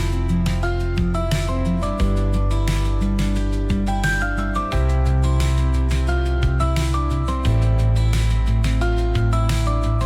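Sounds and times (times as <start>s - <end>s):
synth music with steady beat: 0.0s - 10.0s.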